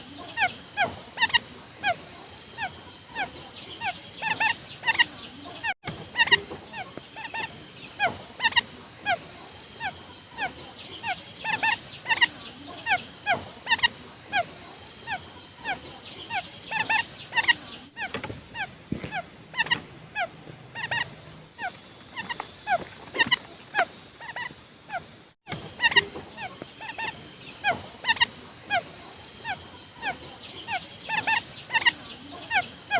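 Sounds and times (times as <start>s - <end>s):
quail calling: 0.0s - 32.9s.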